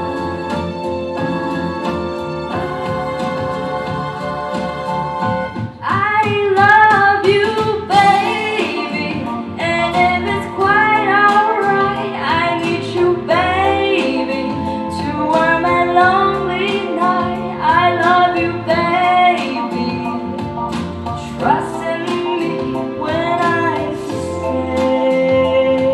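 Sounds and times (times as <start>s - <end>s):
instrumental accompaniment: 0.0s - 25.9s
woman singing into microphone: 2.5s - 20.2s, 21.1s - 25.9s.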